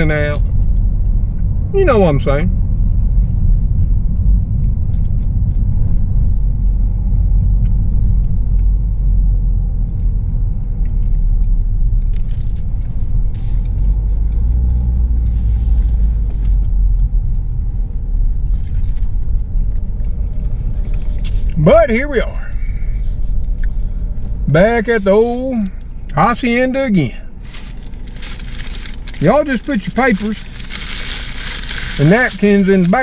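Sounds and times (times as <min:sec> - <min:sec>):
road and engine rumble in car: 0:00.0 - 0:33.0.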